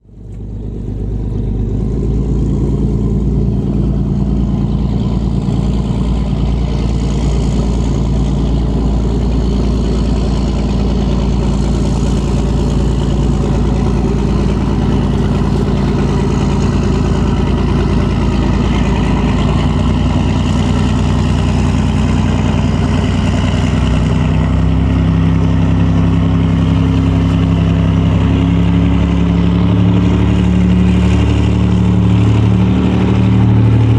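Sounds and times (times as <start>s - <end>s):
diesel engine droning: 0.0s - 33.9s.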